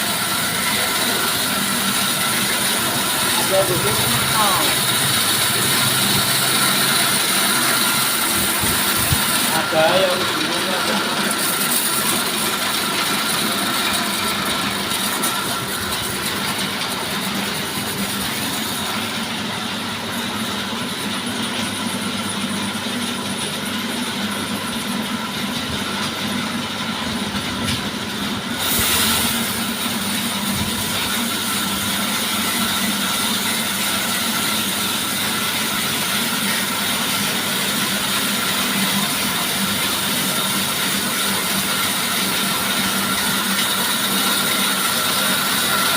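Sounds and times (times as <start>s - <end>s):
sawmill machine sawing timber: 0.0s - 19.6s, 28.6s - 45.9s.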